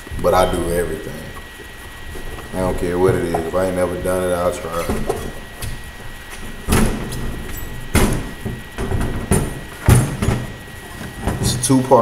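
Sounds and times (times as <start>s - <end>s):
metal wheel rim knocking: 0.0s - 11.4s.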